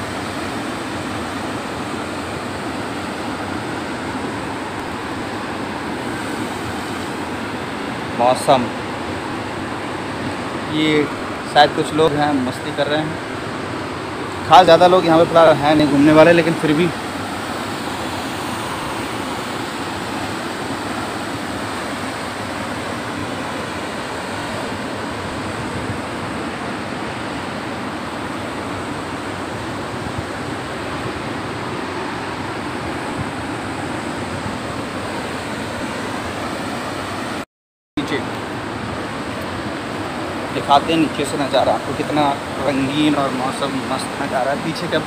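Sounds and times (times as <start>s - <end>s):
water rushing from sluice gates: 0.0s - 37.4s, 38.0s - 45.0s.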